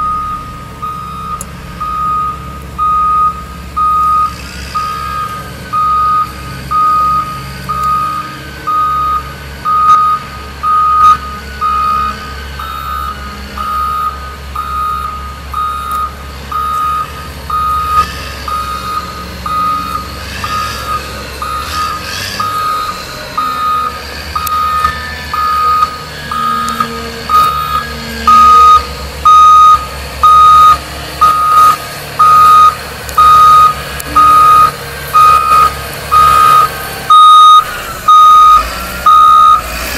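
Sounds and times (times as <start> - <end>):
reversing alarm beeping: 0.0 - 39.8
diesel engine running: 0.0 - 39.9.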